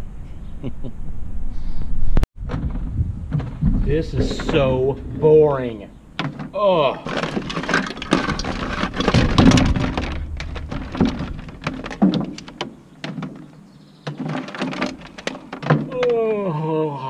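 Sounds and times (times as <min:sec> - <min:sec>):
wire clicking and rustling: 0:02.5 - 0:16.2.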